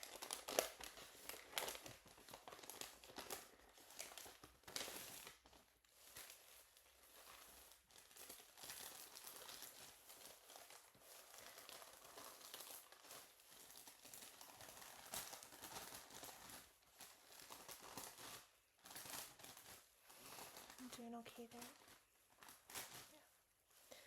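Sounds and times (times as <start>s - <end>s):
paper packaging crinkling and rustling: 0.0s - 24.0s.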